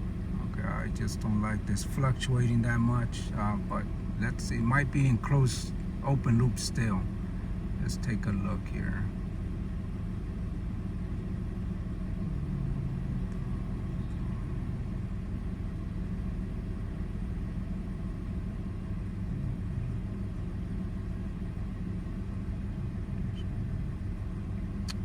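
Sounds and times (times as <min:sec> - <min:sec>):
car engine idling rumble: 0:00.0 - 0:25.0.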